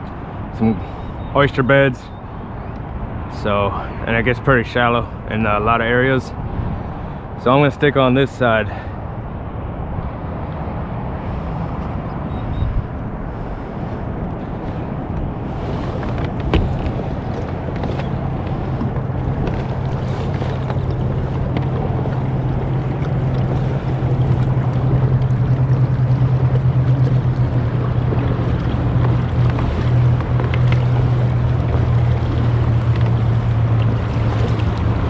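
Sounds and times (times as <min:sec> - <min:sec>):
waves lapping against hull: 0:00.0 - 0:35.0
wind buffeting microphone: 0:00.0 - 0:35.0.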